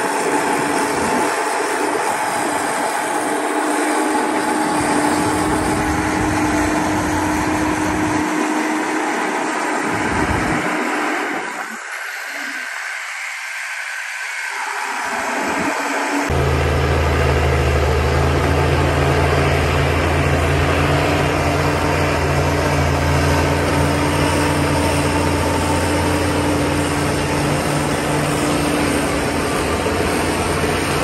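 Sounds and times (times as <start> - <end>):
heavy diesel engine running: 0.0 - 11.9, 14.5 - 31.0.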